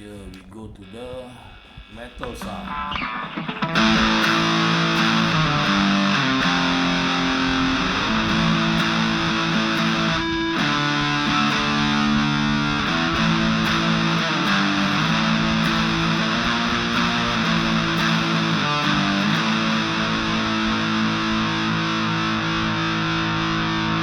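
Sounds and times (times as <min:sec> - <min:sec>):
distorted electric guitar chords: 0:00.8 - 0:24.0.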